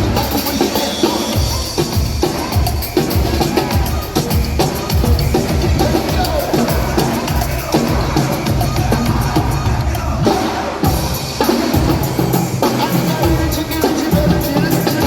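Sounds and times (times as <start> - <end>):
percussion band drumming: 0.0 - 15.0.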